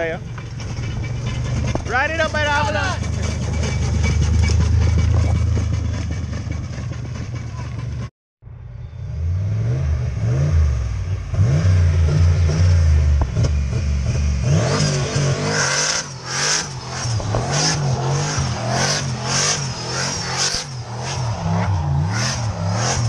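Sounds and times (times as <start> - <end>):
car engine revving: 0.0 - 8.1, 9.0 - 23.0
tires screeching: 0.0 - 8.1, 8.7 - 23.0.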